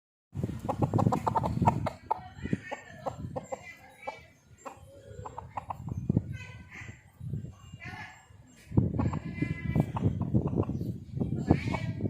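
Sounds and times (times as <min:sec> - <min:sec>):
chickens clucking: 0:00.4 - 0:07.5, 0:08.4 - 0:12.0.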